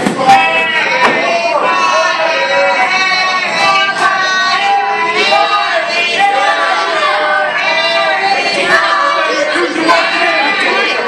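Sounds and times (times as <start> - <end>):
crowd shouting and chanting: 0.0 - 11.0.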